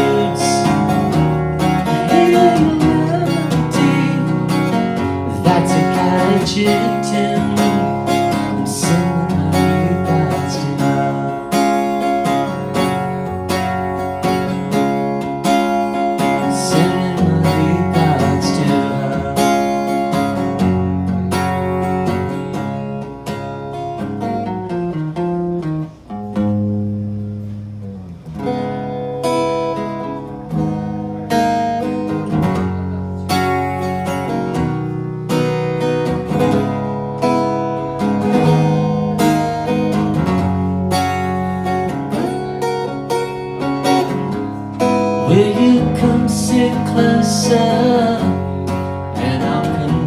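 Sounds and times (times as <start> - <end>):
acoustic guitar strumming chords: 0.0 - 50.0.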